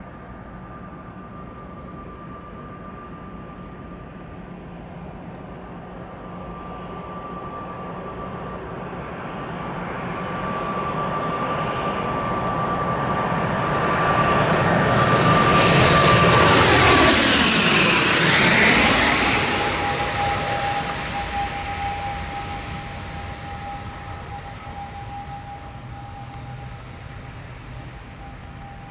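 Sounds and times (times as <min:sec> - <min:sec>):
high whine of engines and propellers: 0:00.0 - 0:28.9
turboprop airliner flying past: 0:00.0 - 0:28.9.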